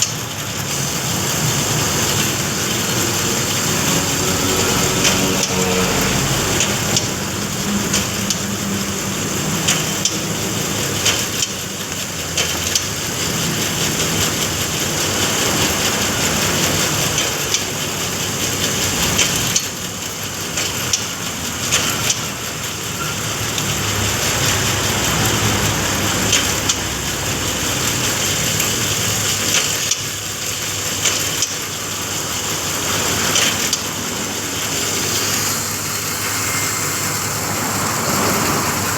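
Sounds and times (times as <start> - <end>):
skewer machine running: 0.0 - 38.9.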